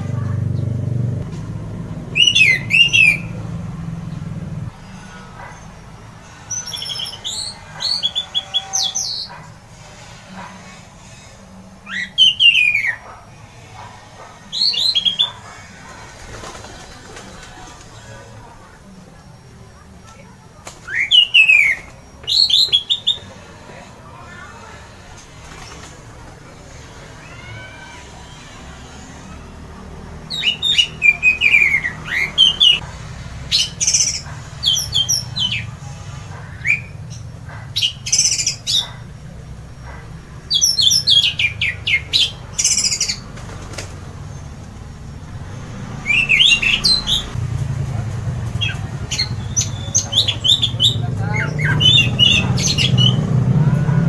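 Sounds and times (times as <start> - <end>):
thrush singing: 0.0 - 54.0.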